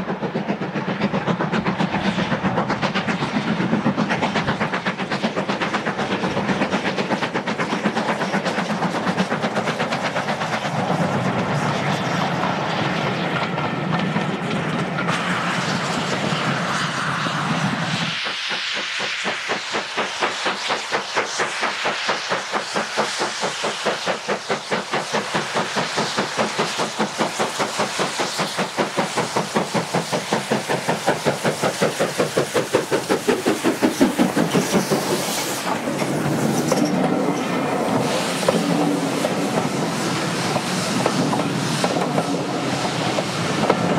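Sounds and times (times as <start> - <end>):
steam hiss: 0.0 - 43.9
steam locomotive exhaust beats: 0.0 - 43.9.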